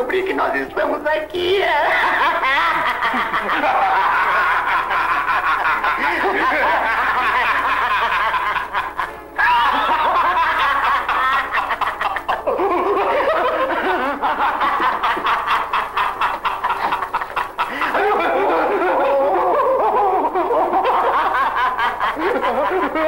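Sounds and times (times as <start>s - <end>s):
men laughing uncontrollably: 1.8s - 23.0s.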